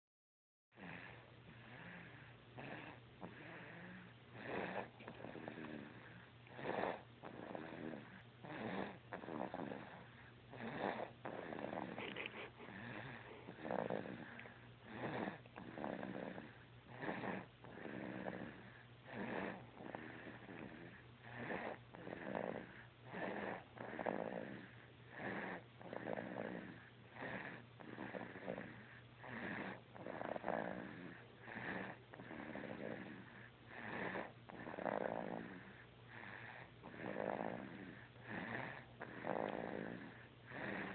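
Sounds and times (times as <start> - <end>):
snoring: 0.8 - 40.9.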